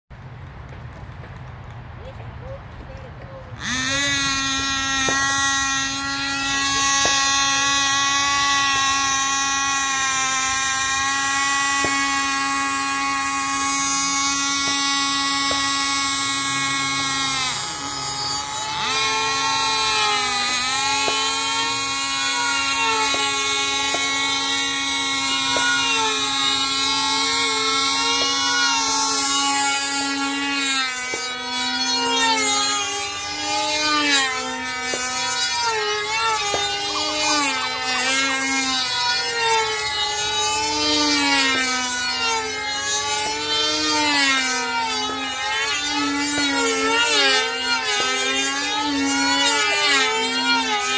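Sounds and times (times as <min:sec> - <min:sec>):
circling model engine rising and falling: 0:00.2 - 0:50.9
model airplane engine whining: 0:00.2 - 0:50.9.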